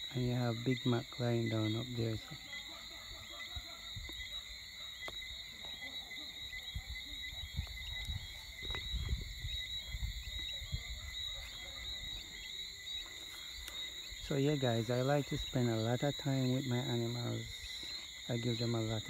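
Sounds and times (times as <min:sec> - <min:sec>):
insect chirp: 0:00.0 - 0:19.0
insects chirring: 0:00.0 - 0:19.0.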